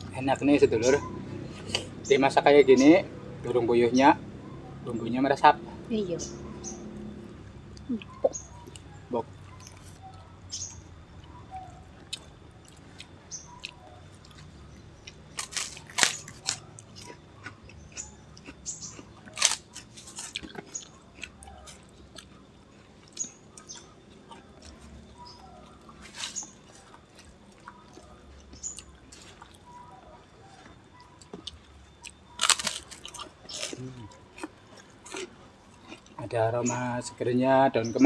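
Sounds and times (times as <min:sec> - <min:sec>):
person chewing with crunches: 0:00.0 - 0:02.0, 0:07.2 - 0:36.4.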